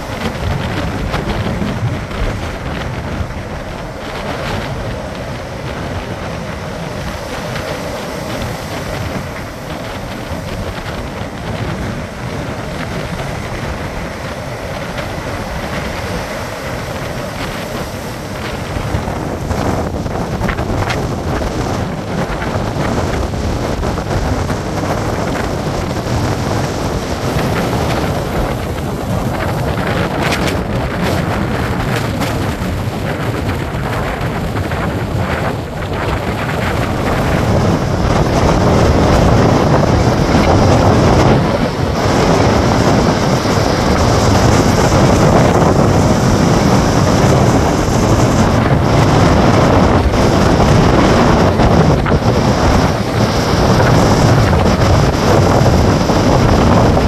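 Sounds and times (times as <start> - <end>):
storm surf breaking: 0.0 - 57.0
wind buffeting microphone: 0.0 - 57.0.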